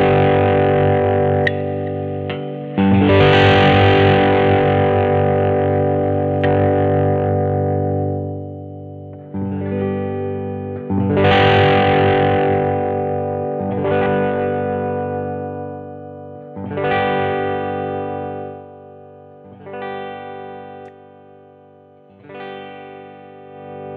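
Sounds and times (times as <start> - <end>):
distorted electric guitar chords: 0.0 - 23.9.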